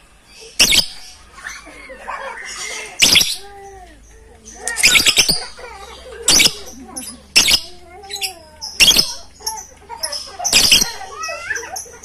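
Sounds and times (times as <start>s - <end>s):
rapid bird chirping: 0.2s - 1.7s, 2.4s - 3.6s, 4.4s - 12.0s
birds shrieking: 0.2s - 12.0s.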